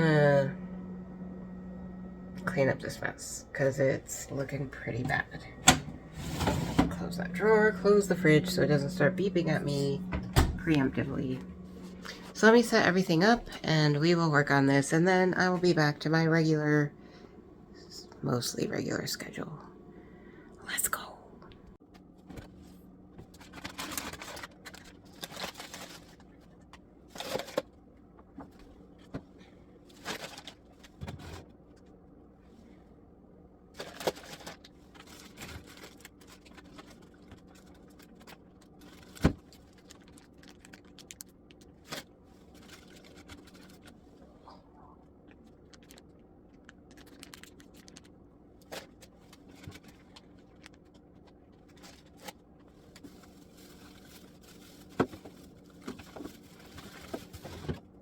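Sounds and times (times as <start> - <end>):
faint low hum: 0.0 - 58.0.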